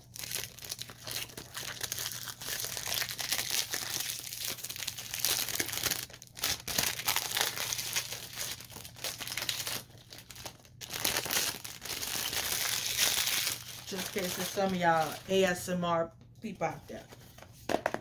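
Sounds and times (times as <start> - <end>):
cellophane wrap crinkling: 0.0 - 15.6.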